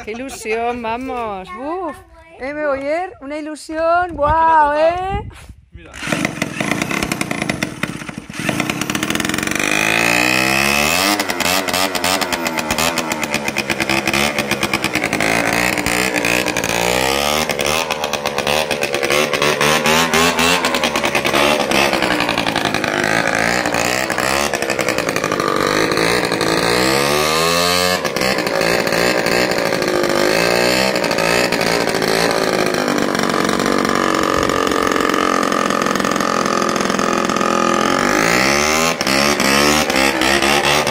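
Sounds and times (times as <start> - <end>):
moped engine revving: 5.9 - 40.9.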